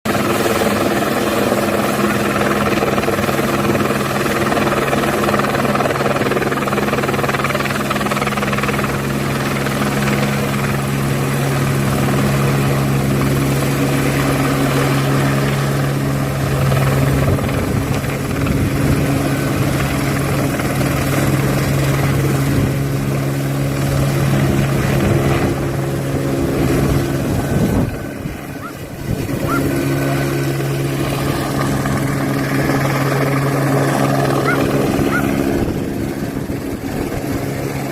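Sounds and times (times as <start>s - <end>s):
helicopter engine and rotor drone: 0.0s - 37.9s.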